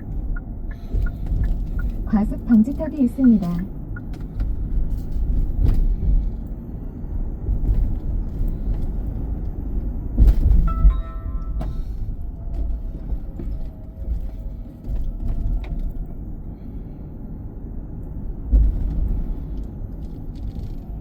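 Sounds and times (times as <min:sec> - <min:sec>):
car tyre and engine rumble: 0:00.0 - 0:21.0.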